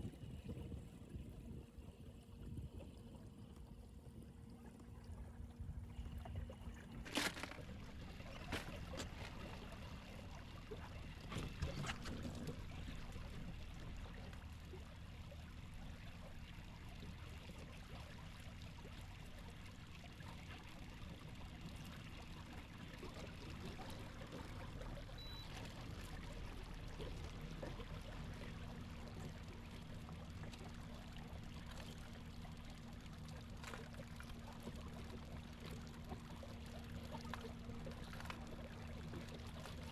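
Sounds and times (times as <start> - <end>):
water trickling and lapping: 0.0 - 39.9.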